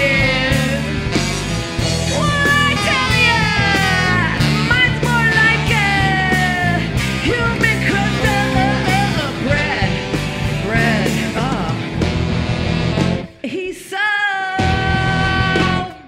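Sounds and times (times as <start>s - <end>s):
live rock band playing: 0.0s - 13.6s, 14.6s - 16.0s.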